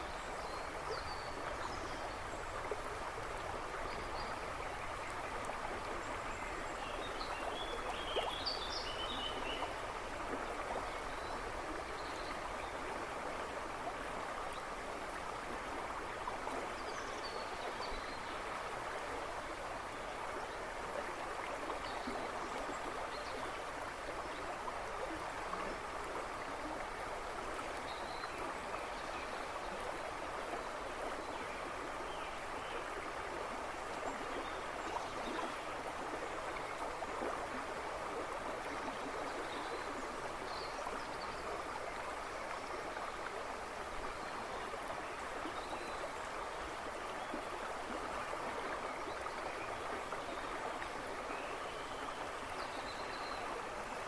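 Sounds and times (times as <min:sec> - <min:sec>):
river rushing and babbling: 0:00.0 - 0:54.0.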